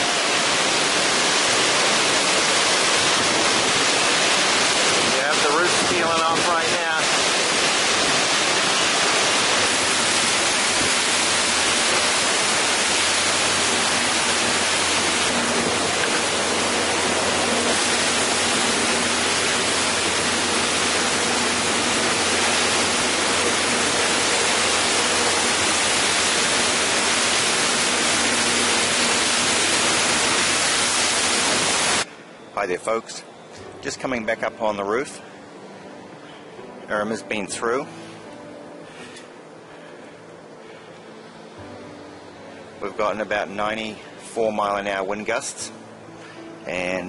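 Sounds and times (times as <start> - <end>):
hurricane wind: 0.0 - 41.8
driving rain: 0.0 - 47.0.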